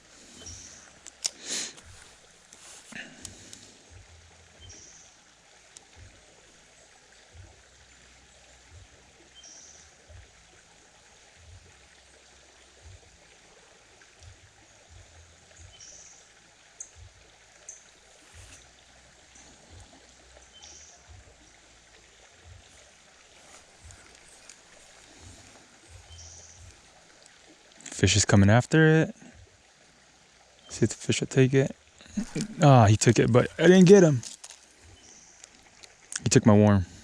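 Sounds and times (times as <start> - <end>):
creek water running: 0.0 - 37.0.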